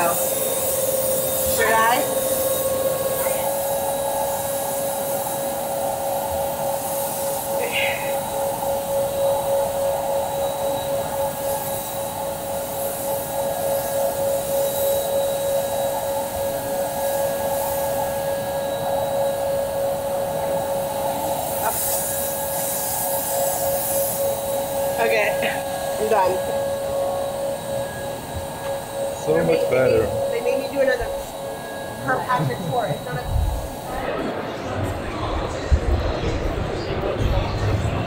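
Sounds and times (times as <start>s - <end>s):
blower motor whine: 0.0s - 38.0s.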